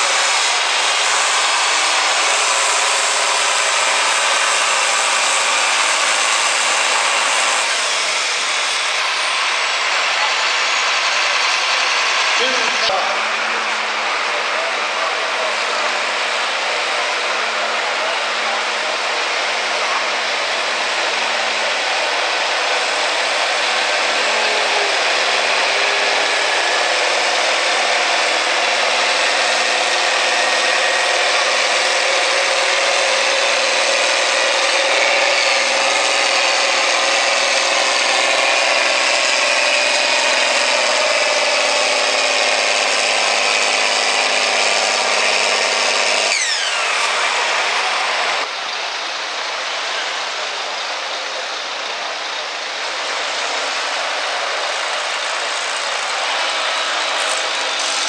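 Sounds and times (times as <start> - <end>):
tractor diesel engine at full throttle: 0.0 - 58.0.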